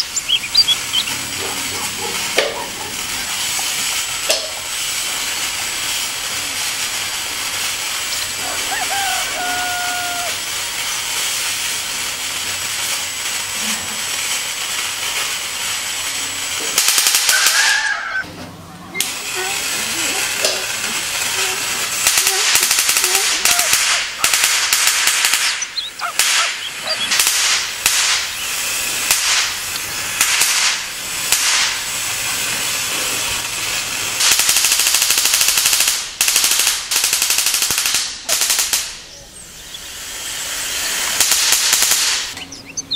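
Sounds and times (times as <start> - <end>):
sparking snaps: 0.0 - 17.8, 19.0 - 42.9
electric corona discharge hiss: 0.0 - 18.3, 19.0 - 42.9.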